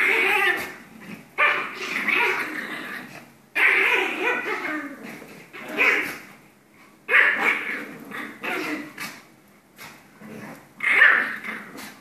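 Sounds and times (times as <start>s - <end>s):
dogs barking and growling: 0.0s - 6.4s, 7.1s - 12.0s.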